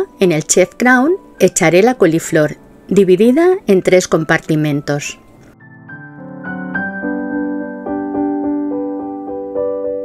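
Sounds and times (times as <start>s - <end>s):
piano melody: 0.0s - 10.0s.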